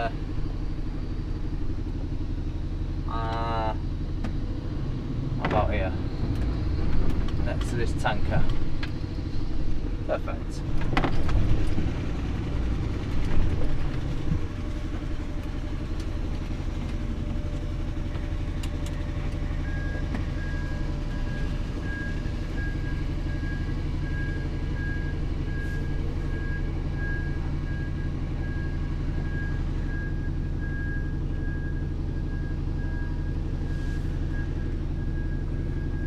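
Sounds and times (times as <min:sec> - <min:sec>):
diesel engine at low revs: 0:00.0 - 0:36.0.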